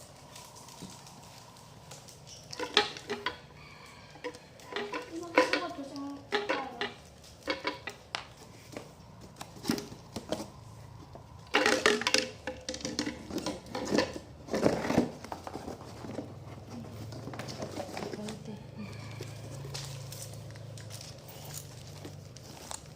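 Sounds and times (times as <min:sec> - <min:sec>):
hard objects clicking and clattering: 0:00.0 - 0:22.9.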